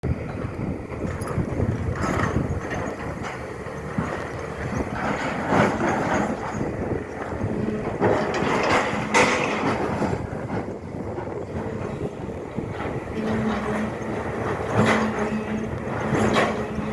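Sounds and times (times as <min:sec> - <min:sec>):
excavator engine rumbling: 0:00.0 - 0:16.9
bucket scraping and clattering: 0:01.0 - 0:16.9.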